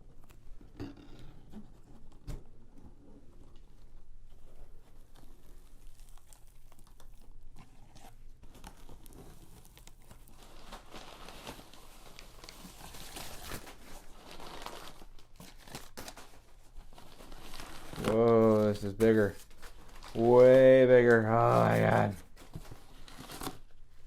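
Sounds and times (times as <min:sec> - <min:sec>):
paper wrapping crinkling and tearing: 0:03.7 - 0:24.0.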